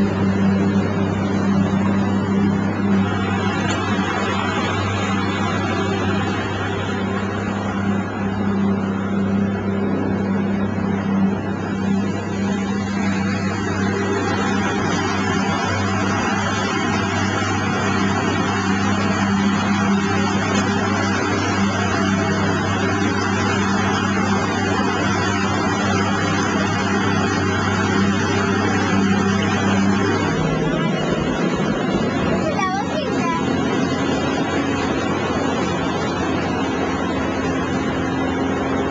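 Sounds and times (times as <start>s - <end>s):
motorboat engine hum: 0.0s - 38.9s
water rushing: 0.0s - 38.9s.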